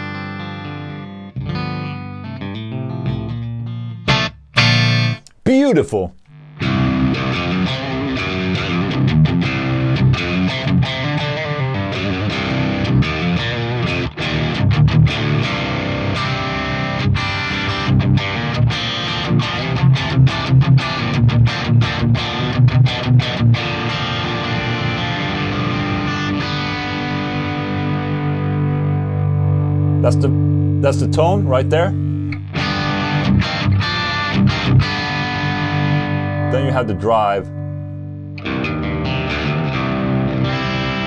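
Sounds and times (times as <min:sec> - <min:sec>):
clean electric guitar: 0:00.0 - 0:05.5, 0:06.1 - 0:41.0.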